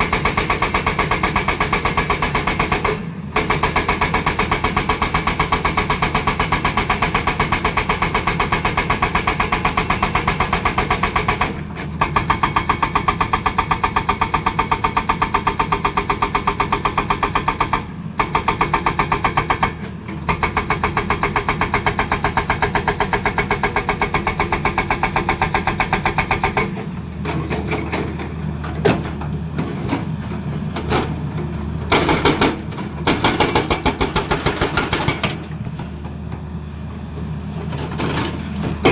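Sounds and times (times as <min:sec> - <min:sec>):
hydraulic rock breaker hammering rock: 0:00.0 - 0:30.1, 0:31.8 - 0:36.4, 0:37.7 - 0:38.9
excavator diesel engine running: 0:00.0 - 0:38.9.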